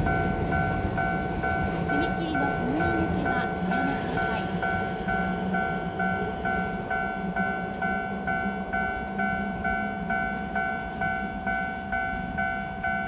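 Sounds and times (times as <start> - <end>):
level crossing warning bell: 0.0 - 13.0
train rumbling: 0.0 - 13.0.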